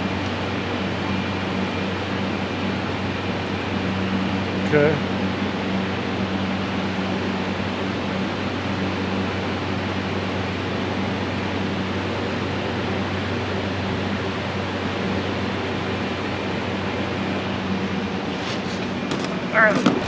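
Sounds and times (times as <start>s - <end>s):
fan rushing with low hum: 0.0s - 20.0s.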